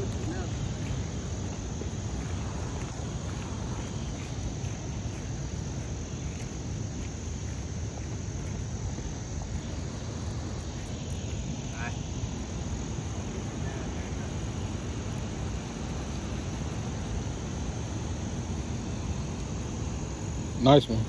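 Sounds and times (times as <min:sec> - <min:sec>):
insects trilling: 0:00.0 - 0:21.0
low rumble of outdoor noise: 0:00.0 - 0:21.0.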